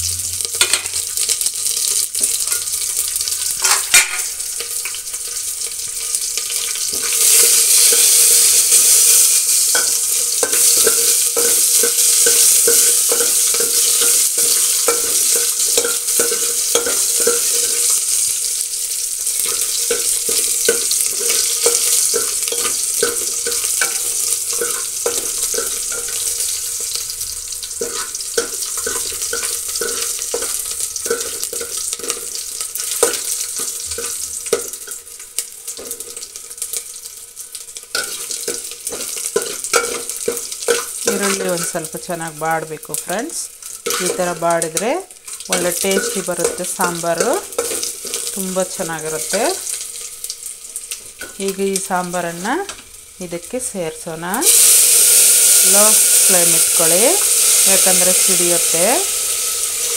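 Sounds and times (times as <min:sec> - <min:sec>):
spices sizzling in hot oil: 0:00.0 - 0:59.9.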